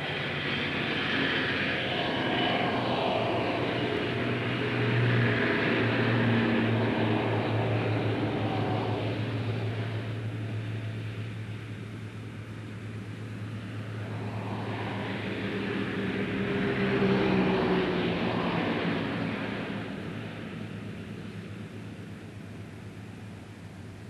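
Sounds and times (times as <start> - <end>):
mechanical drone with low hum: 0.0 - 24.0.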